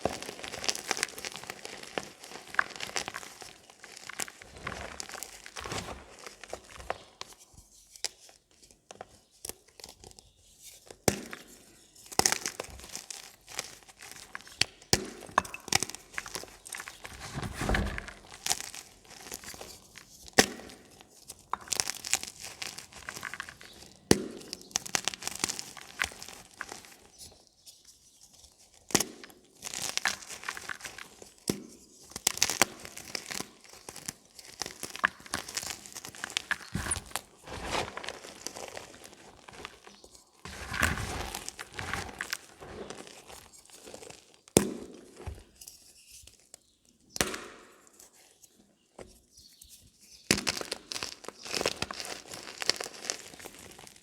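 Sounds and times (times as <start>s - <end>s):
chalk crunching and crackling: 0.0s - 46.7s, 47.6s - 54.0s.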